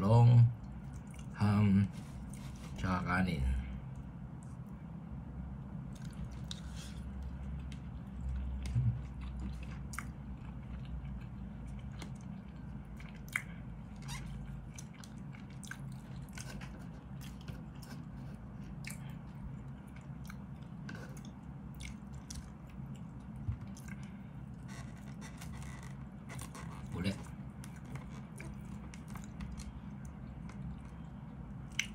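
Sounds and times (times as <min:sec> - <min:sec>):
steady low hum: 0:00.0 - 0:31.9
man chewing food: 0:00.6 - 0:01.4, 0:02.0 - 0:02.8, 0:05.7 - 0:31.9.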